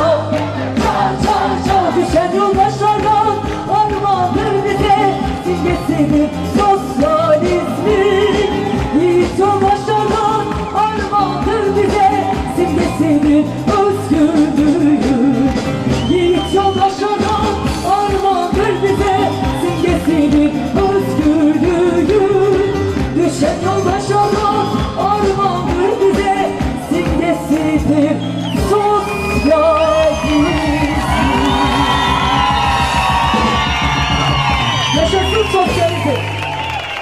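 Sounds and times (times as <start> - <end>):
person singing: 0.0 - 32.4
live band music: 0.0 - 36.6.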